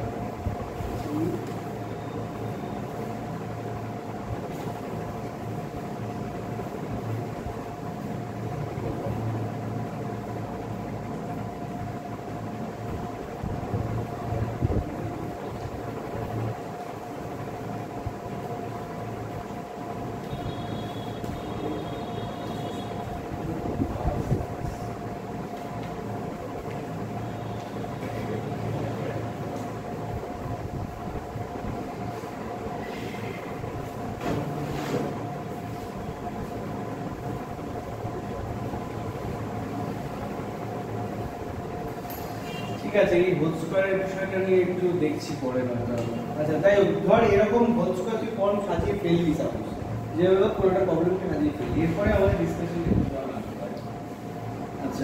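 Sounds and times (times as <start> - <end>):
constant low hum: 0.0 - 55.0
faint high whine: 0.0 - 55.0
low rumble of machinery: 0.0 - 55.0.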